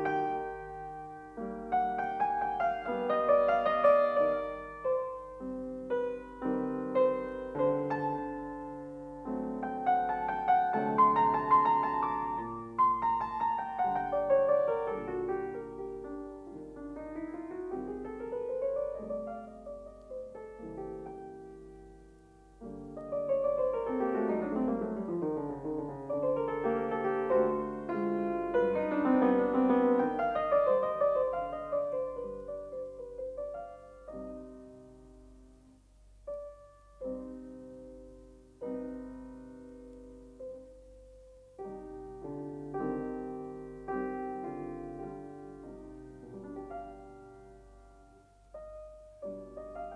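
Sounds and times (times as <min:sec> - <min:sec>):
solo piano music: 0:00.0 - 0:49.9.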